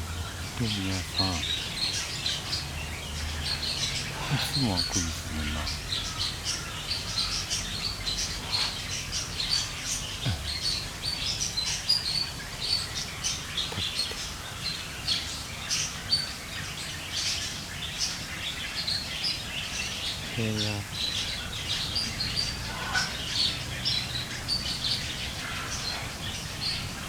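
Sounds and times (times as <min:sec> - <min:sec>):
low background noise: 0:00.0 - 0:27.0
small birds chirping: 0:00.0 - 0:27.0.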